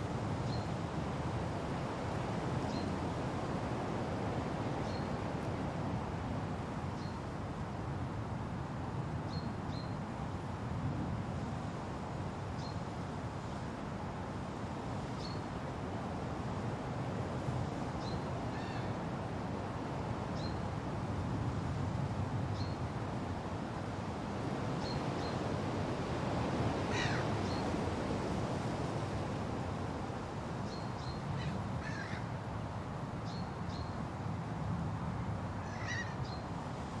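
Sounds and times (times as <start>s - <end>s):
wind through forest foliage: 0.0s - 37.0s.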